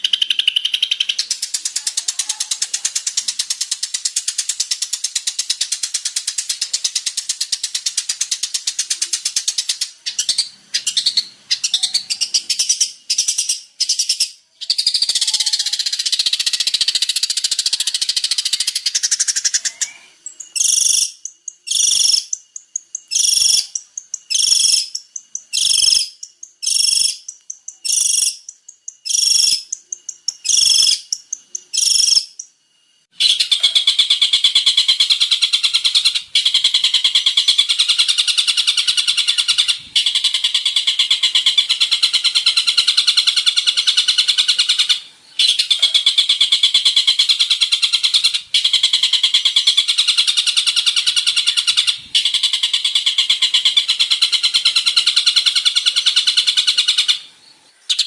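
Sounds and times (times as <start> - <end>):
shrike singing: 0.0 - 57.3.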